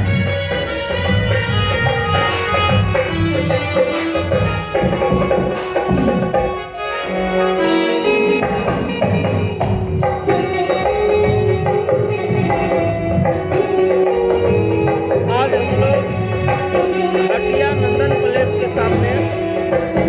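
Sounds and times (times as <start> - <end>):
jingling percussion: 0.0 - 7.4, 8.0 - 20.0
live band music: 0.0 - 20.0.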